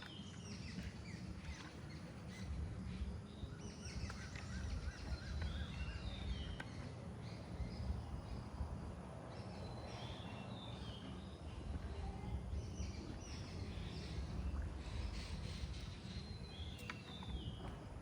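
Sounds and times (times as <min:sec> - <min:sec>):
low background rumble: 0:00.0 - 0:18.0
songbirds chirping: 0:00.0 - 0:18.0.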